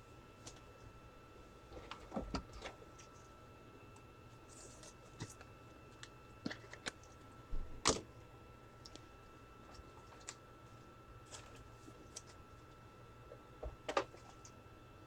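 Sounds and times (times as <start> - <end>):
faint electronic hum: 0.0 - 15.0.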